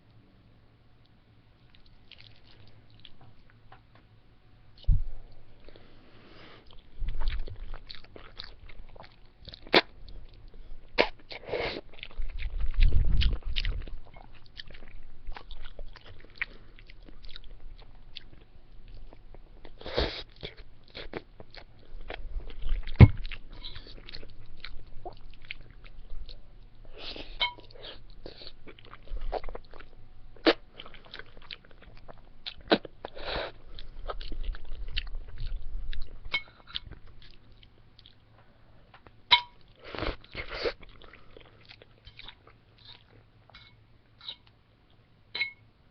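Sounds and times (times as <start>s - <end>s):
person chewing food: 1.6s - 3.6s, 4.7s - 44.6s.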